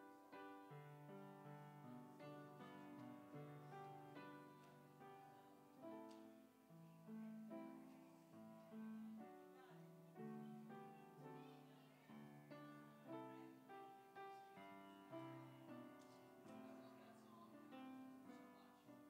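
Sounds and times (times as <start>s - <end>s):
grand piano melody: 0.0s - 19.0s.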